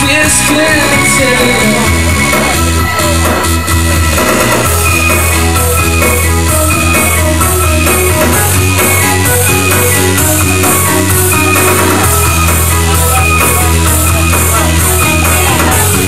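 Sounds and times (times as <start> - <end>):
bass line: 0.0 - 16.0
drum beat: 0.0 - 16.0
keyboard notes: 0.0 - 16.0.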